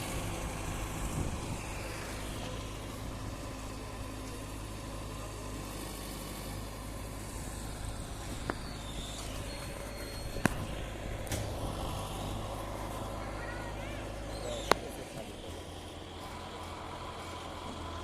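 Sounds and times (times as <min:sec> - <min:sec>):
diesel engine running at low revs: 0:00.0 - 0:18.0.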